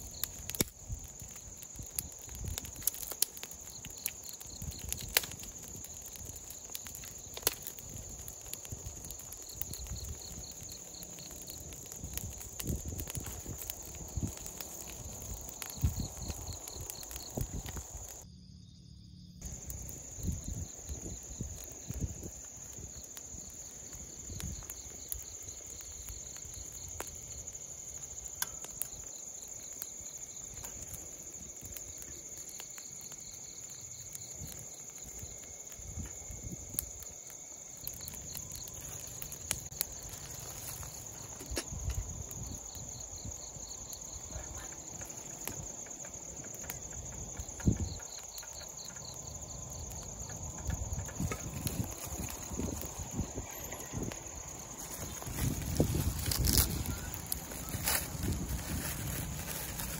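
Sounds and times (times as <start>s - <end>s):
campfire crackles: 0.0s - 59.9s
crickets and insects trilling: 0.0s - 59.9s.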